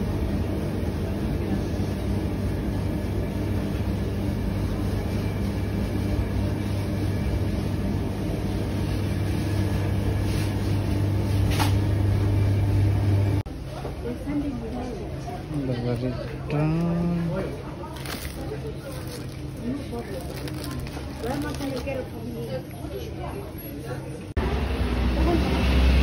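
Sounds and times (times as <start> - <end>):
freezer cabinets humming: 0.0 - 26.0.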